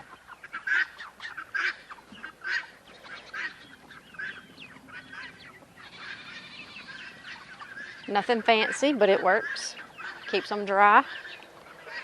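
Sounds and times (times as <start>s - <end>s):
high peeping calls: 0.0s - 12.0s
loud poultry call: 0.0s - 12.0s.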